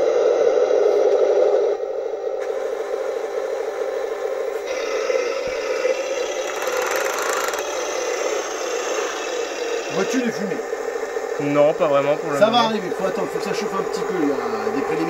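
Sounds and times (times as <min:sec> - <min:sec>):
simulated engine drone from speaker: 0:02.4 - 0:15.0.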